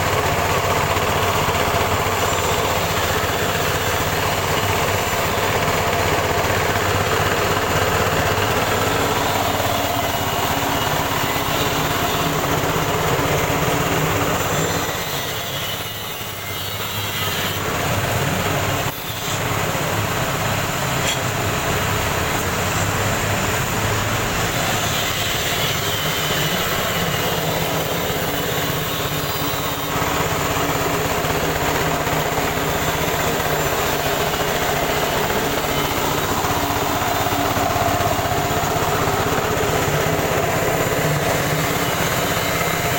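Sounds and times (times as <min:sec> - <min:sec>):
rice huller machine droning: 0:00.0 - 0:42.9.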